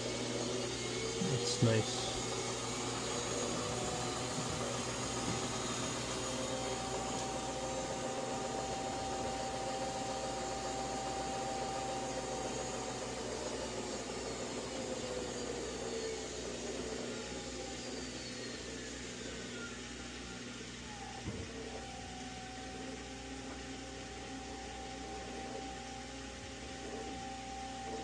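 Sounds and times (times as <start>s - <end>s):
washing machine spinning whine: 0.0s - 28.0s.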